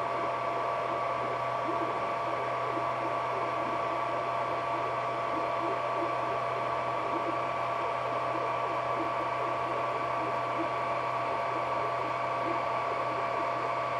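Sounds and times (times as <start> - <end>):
printer fans whirring: 0.0 - 13.9.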